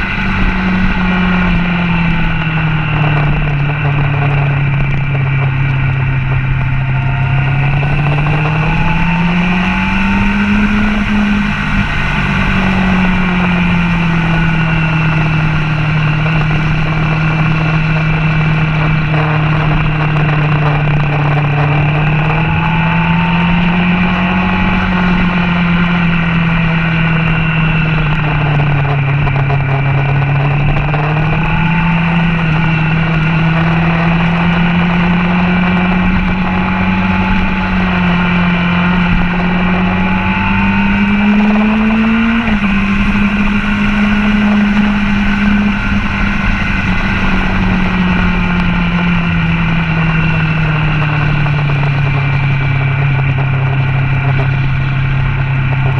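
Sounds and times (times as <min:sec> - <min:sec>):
motorcycle engine revving: 0:00.0 - 0:55.9
wind rumble on microphone: 0:00.0 - 0:55.9.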